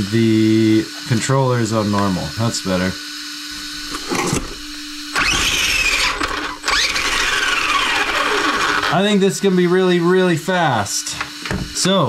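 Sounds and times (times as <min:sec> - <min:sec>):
electric motor whine: 0:01.6 - 0:11.7.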